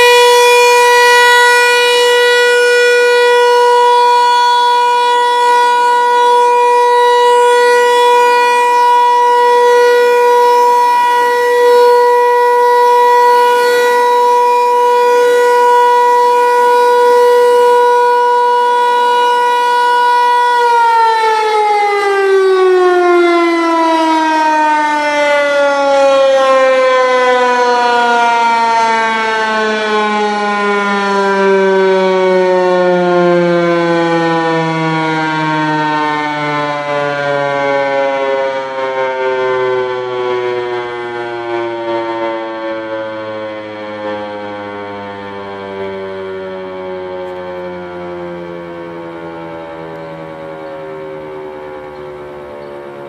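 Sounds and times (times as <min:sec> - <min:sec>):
tornado warning siren: 0:00.0 - 0:53.0.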